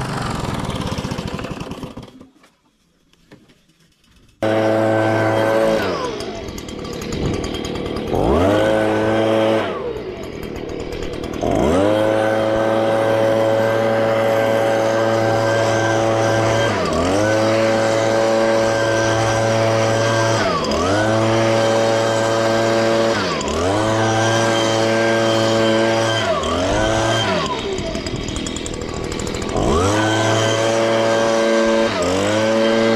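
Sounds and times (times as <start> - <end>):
small engine revving: 0.0 - 2.3, 4.2 - 32.9.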